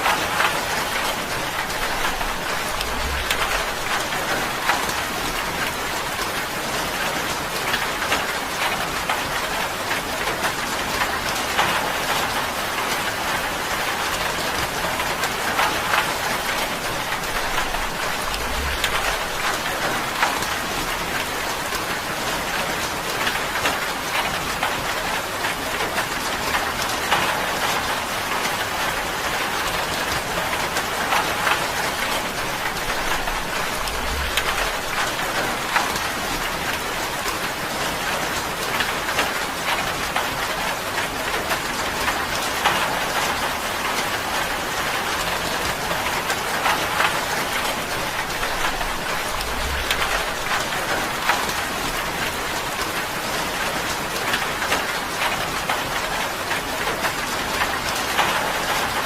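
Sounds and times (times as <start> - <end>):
rain on tin: 9.8 - 59.0.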